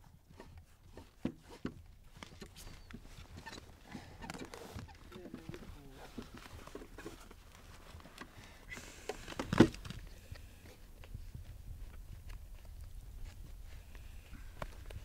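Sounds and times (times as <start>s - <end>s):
skates laces rustling and clicking: 0.2s - 15.0s.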